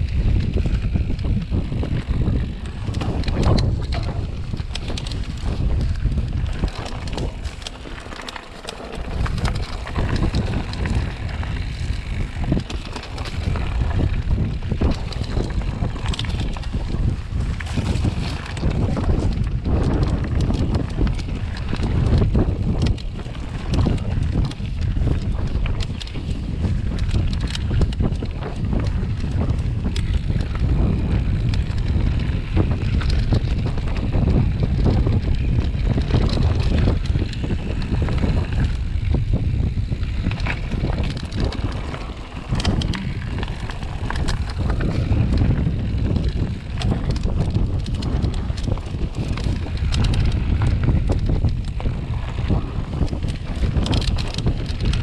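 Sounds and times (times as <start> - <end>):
wind rumble on microphone: 0.0 - 55.0
short clicks and rattles: 0.4 - 39.2, 40.0 - 55.0.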